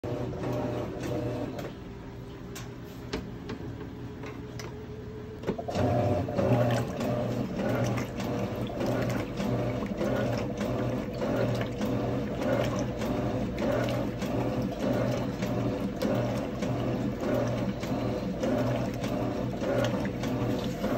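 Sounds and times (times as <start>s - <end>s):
washing machine churning and sloshing: 0.0s - 20.9s.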